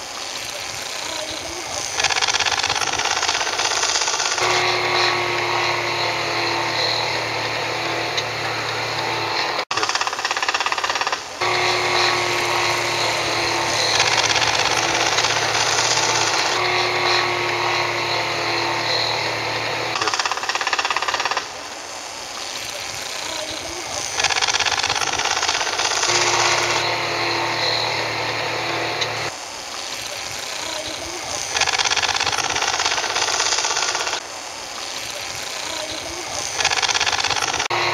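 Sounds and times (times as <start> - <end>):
model airplane engines buzzing: 0.0 - 34.2, 35.2 - 37.9.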